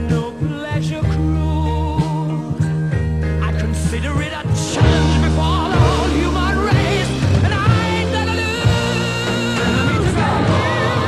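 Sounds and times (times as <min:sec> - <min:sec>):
song with bass and melody: 0:00.0 - 0:11.0.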